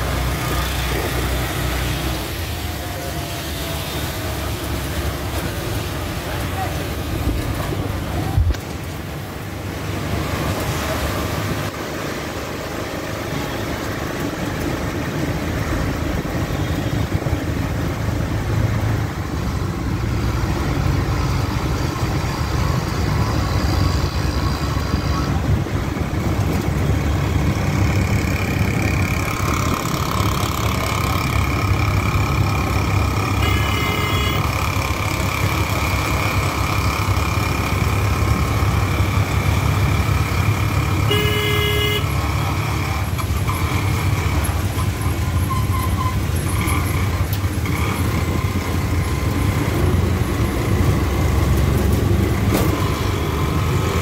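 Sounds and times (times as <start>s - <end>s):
auto-rickshaw engine rumbling: 0.0s - 54.0s.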